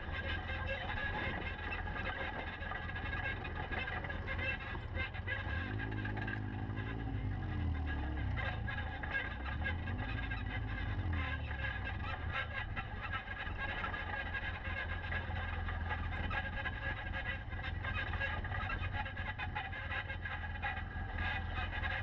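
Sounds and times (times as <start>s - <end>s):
off-road vehicle engines droning: 0.0s - 22.0s.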